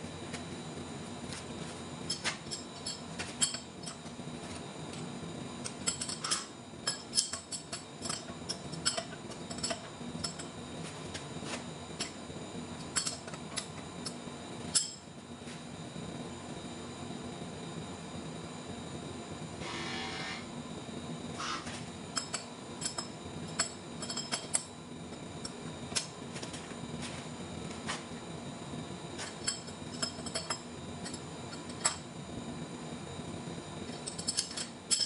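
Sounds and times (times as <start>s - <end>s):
steady workshop hum: 0.0s - 35.0s.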